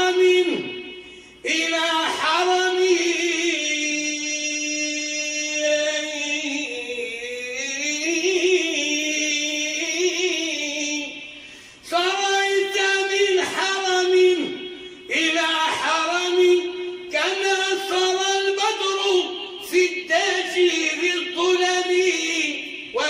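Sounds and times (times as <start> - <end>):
man chanting unaccompanied: 0.0 - 23.0.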